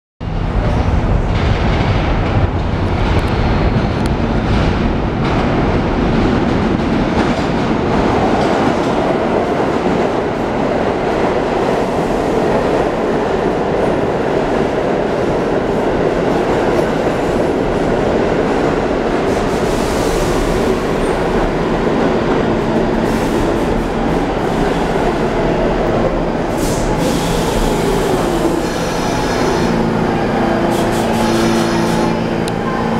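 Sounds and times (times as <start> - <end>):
subway train rumbling on rails: 0.2 - 32.9.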